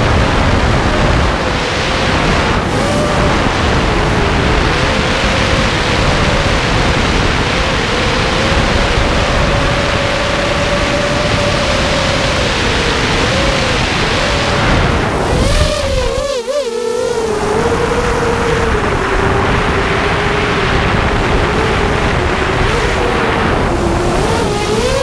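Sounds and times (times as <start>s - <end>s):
drone motors whining: 0.0s - 25.0s
wind rushing over camera: 0.0s - 25.0s.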